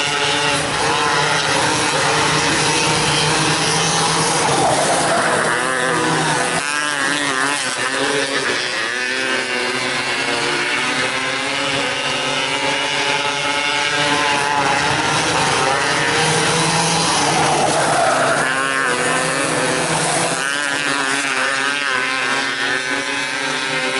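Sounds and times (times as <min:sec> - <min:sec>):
racing car engines revving: 0:00.0 - 0:23.9.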